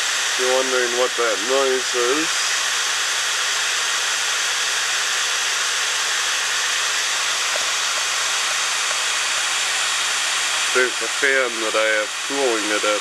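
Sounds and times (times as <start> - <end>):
blower fan rushing hiss: 0.0 - 13.0.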